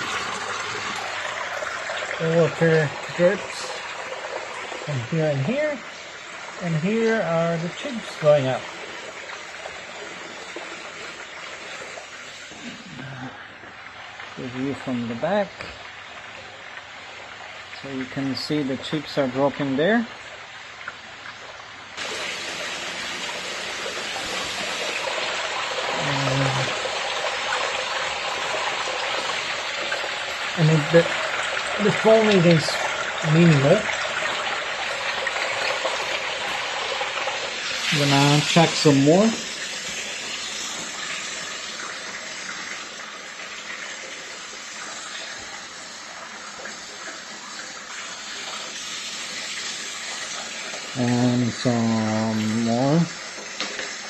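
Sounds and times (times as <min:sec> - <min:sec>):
coolant rushing and splashing: 0:00.0 - 0:54.0.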